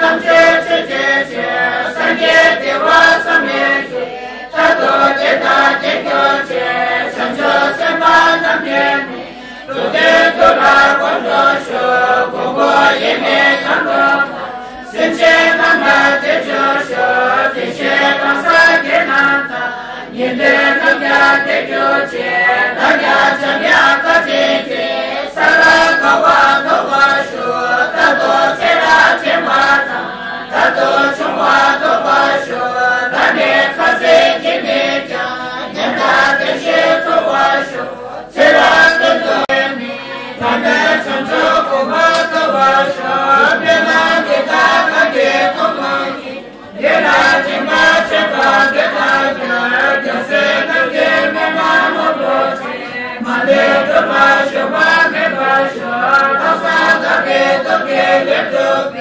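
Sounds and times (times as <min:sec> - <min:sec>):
women chanting prayers in unison: 0:00.0 - 0:59.0.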